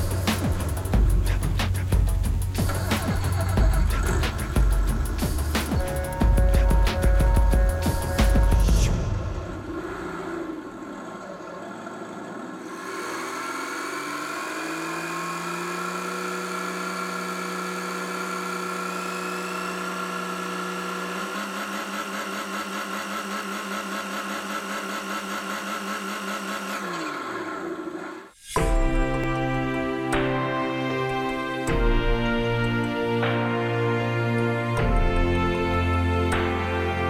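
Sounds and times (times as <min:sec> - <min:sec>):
simulated engine sound: 0:00.0 - 0:36.8.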